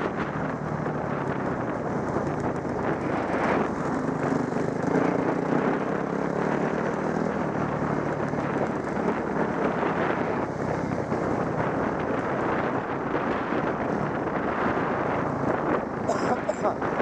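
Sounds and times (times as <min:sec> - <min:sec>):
trail motorcycle engine running: 0:00.0 - 0:17.0.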